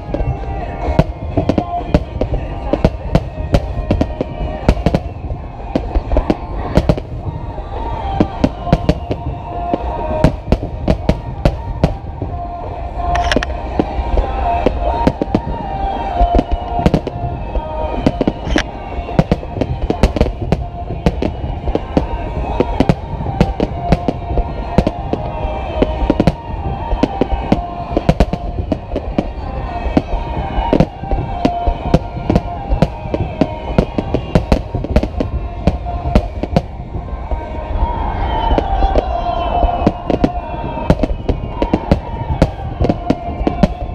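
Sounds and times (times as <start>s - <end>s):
fireworks bursting: 0.0s - 43.9s
music playing: 0.0s - 43.9s.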